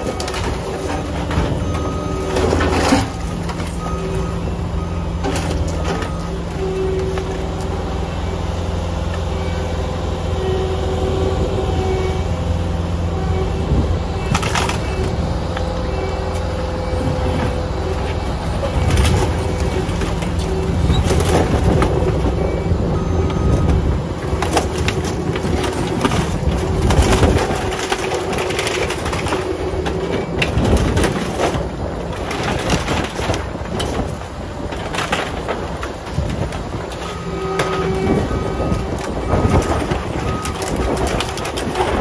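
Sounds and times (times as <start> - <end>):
wood and metal cracking and crunching: 0.0 - 8.4, 14.1 - 42.0
skid steer engine running: 0.0 - 42.0.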